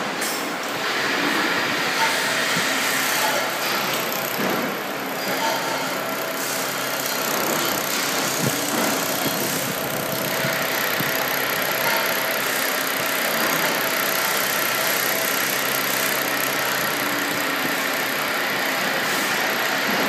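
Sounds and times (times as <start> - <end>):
welding machine hum and hiss: 0.0 - 20.0.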